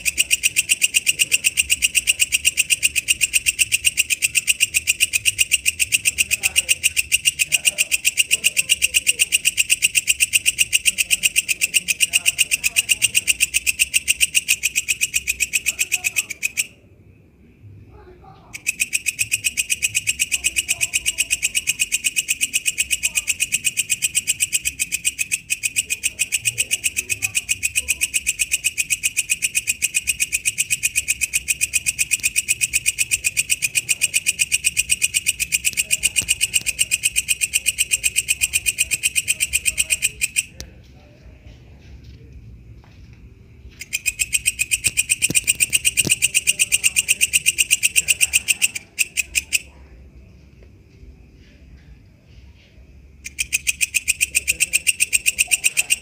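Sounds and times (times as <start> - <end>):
bush cricket clicking call: 0.0 - 16.8, 18.4 - 42.4, 43.6 - 49.9, 53.0 - 56.0.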